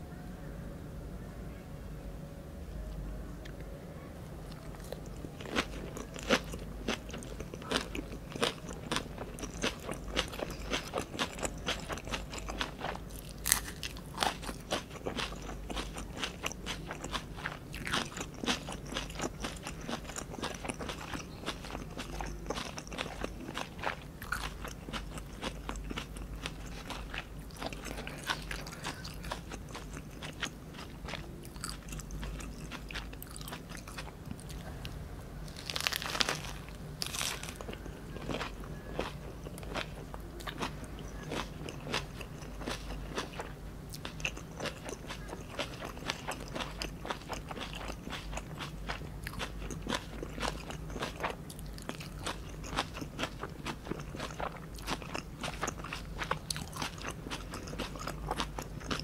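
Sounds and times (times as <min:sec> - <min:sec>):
chewing crunchy food: 0:03.4 - 0:59.0.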